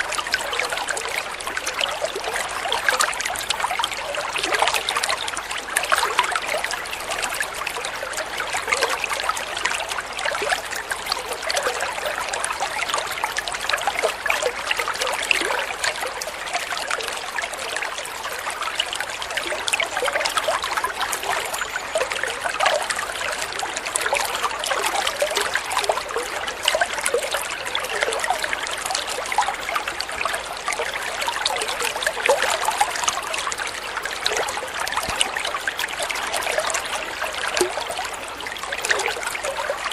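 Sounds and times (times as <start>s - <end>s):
water trickling in a stream: 0.0s - 39.9s.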